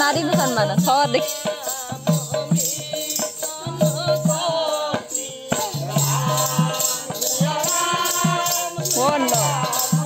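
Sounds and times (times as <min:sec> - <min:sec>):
hand drum beat: 0:00.0 - 0:10.0
woman singing: 0:00.0 - 0:10.0.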